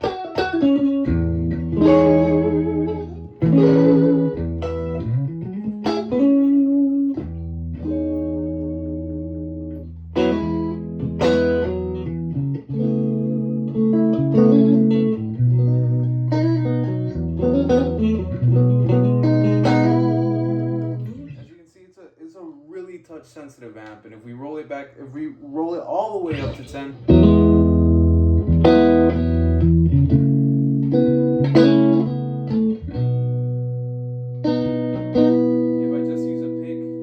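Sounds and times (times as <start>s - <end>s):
electric guitar through valve amp: 0.0s - 21.4s, 26.3s - 37.0s.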